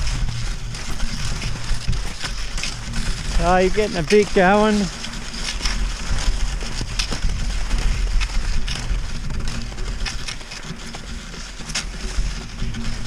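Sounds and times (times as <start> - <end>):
ski pole crunches: 0.0 - 13.0
skis swishing over snow: 0.0 - 13.0
wind rumble on microphone: 0.0 - 13.0.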